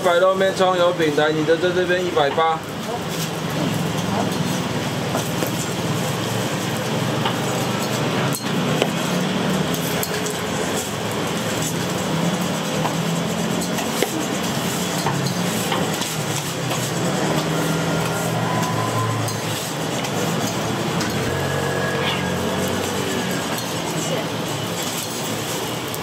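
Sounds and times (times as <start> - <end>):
steady background din: 0.6 - 26.0
metal utensils and pans clinking: 2.2 - 26.0.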